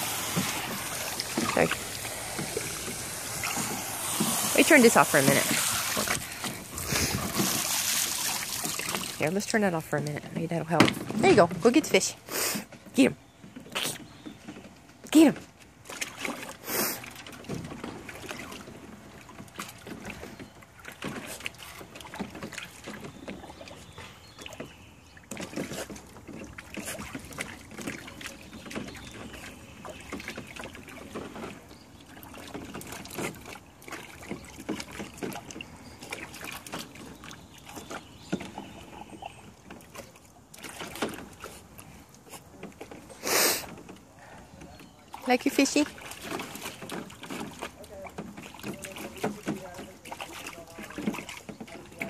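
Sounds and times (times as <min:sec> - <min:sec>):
water splashing in a pool: 0:00.0 - 0:52.0.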